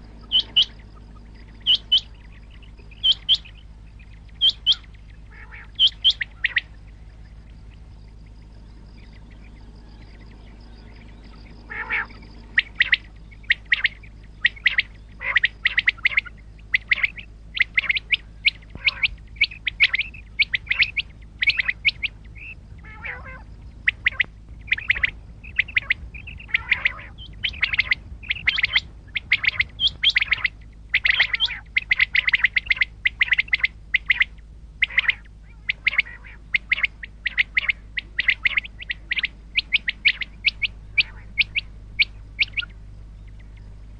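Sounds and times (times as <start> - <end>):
quail calling: 0.0 - 43.9
steady low hum: 0.0 - 43.9.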